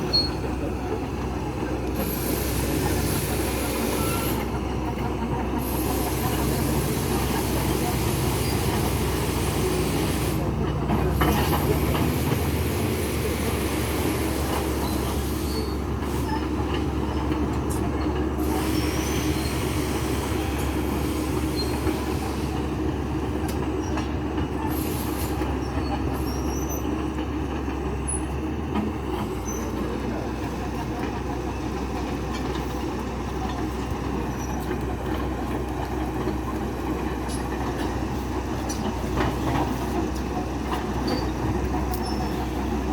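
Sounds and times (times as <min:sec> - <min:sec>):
heavy machinery engine rumble: 0:00.0 - 0:42.9.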